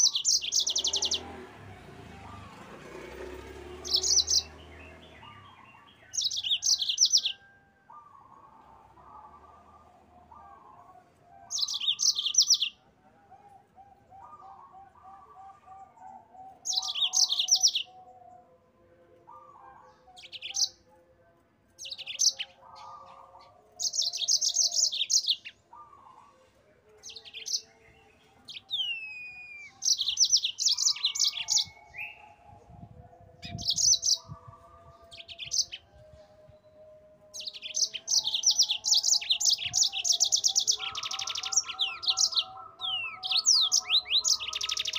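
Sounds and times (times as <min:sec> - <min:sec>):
canary singing rapid trills: 0:00.0 - 0:12.8, 0:14.1 - 0:18.1, 0:20.2 - 0:20.8, 0:21.8 - 0:26.2, 0:28.4 - 0:32.8, 0:33.4 - 0:36.1, 0:37.3 - 0:44.9.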